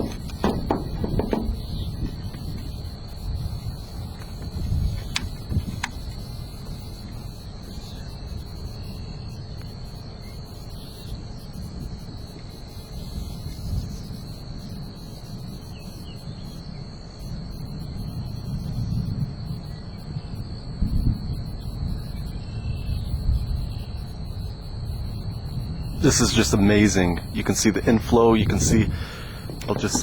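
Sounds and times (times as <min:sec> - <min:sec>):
high-pitched insect chorus: 0:00.0 - 0:30.0
wind rumbling on microphone: 0:00.0 - 0:30.0.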